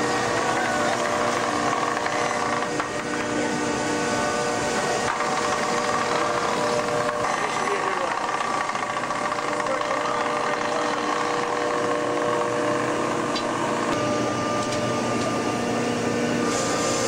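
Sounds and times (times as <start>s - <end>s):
ship engine humming: 0.0s - 16.7s.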